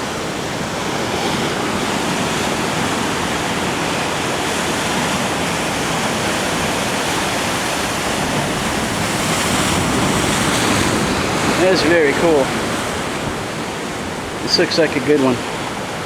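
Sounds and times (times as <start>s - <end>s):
surf crashing over rocks: 0.0s - 16.0s
wind buffeting microphone: 0.0s - 16.0s.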